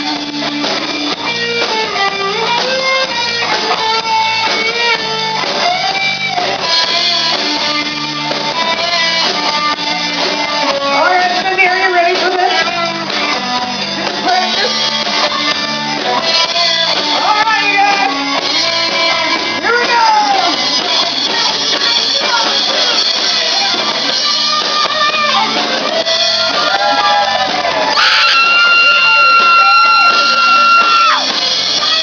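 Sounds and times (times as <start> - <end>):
electric guitar: 0.0 - 32.0
live rock band playing: 0.0 - 32.0.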